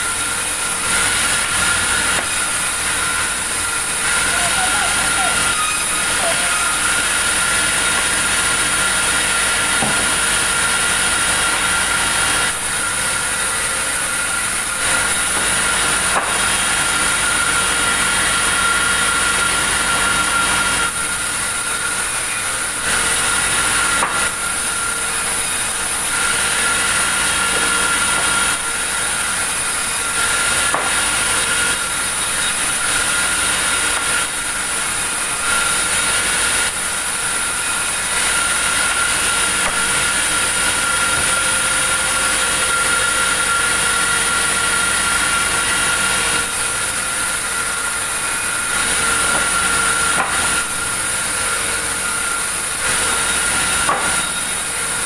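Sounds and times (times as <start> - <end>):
loud mechanical noise with whine: 0.0 - 55.0.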